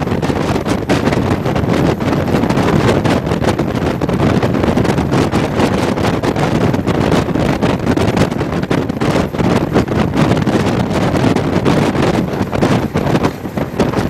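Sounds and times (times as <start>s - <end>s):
train rumbling: 0.0s - 14.0s
wind buffeting microphone: 0.0s - 14.0s.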